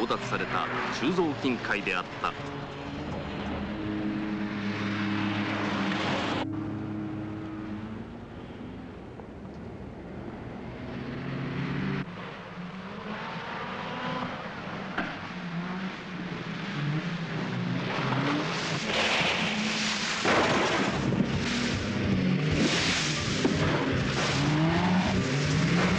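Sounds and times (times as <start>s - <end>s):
car engines running hard: 0.0s - 25.9s
cars driving fast: 0.0s - 25.9s.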